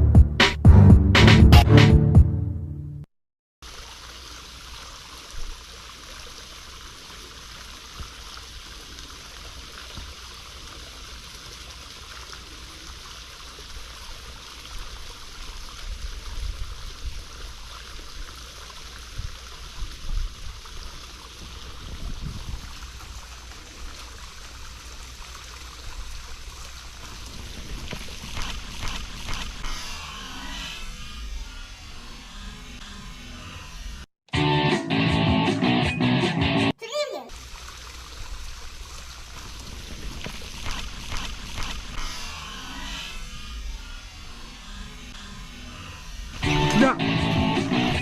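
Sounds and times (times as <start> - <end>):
flowing water rushing: 3.6 - 32.9, 36.8 - 48.0.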